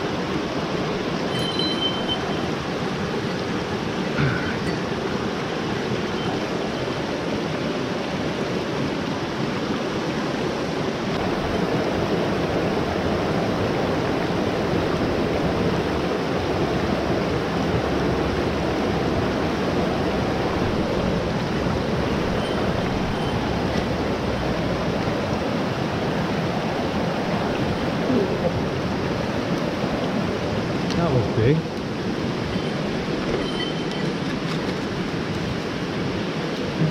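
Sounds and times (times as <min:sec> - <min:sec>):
stream rushing over rocks: 0:00.0 - 0:36.9.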